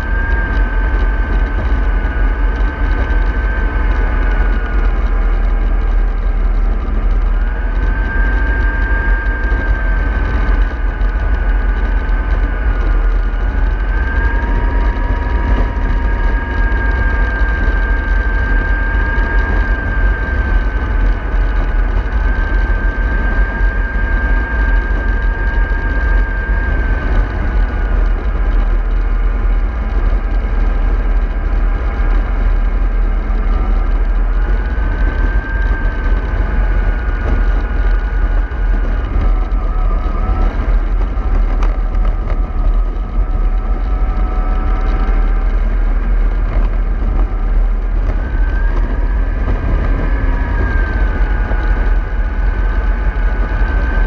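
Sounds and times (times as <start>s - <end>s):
bus engine rumble: 0.0s - 54.0s
drivetrain whine: 0.0s - 54.0s.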